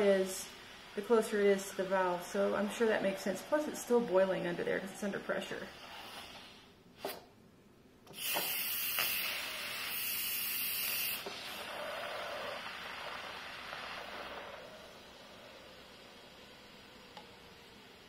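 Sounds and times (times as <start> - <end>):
pressure cooker venting steam: 0.0 - 7.2, 8.1 - 18.0.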